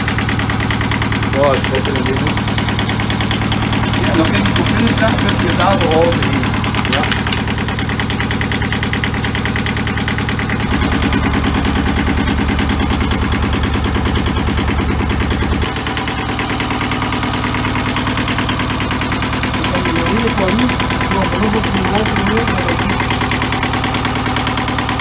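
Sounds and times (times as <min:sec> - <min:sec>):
engine running with pulsing beat: 0:00.0 - 0:25.0.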